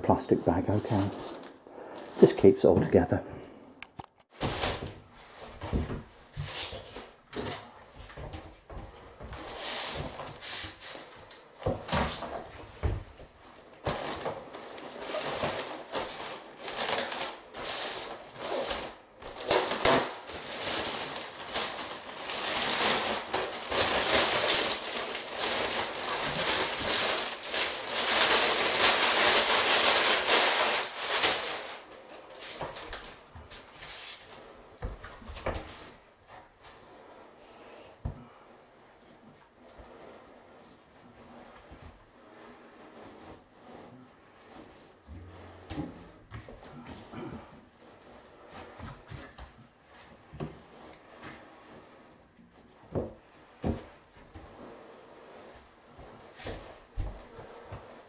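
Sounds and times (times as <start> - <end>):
plastic wrapping rustling and tearing: 0.1 - 2.6, 4.0 - 37.0, 40.6 - 58.0.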